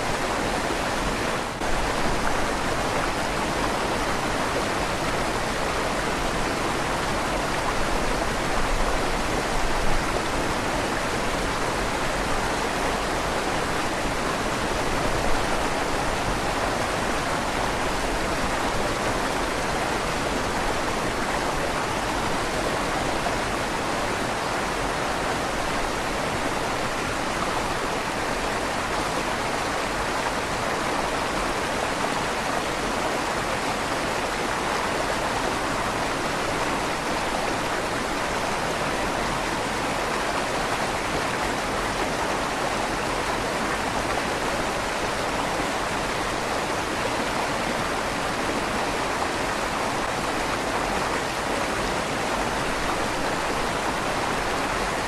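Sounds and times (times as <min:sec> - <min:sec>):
river water rushing with echo: 0:00.0 - 0:55.0.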